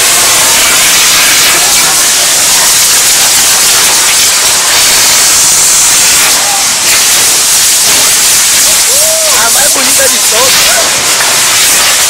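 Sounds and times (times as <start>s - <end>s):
fireworks hissing loudly: 0.0s - 12.0s.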